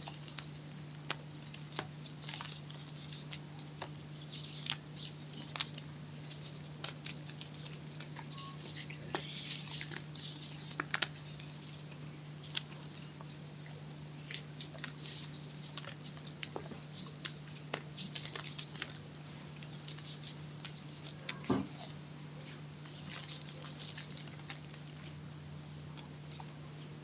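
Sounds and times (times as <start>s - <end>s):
chalk crunching and crumbling: 0.0s - 25.2s
low steady hum: 0.0s - 27.0s.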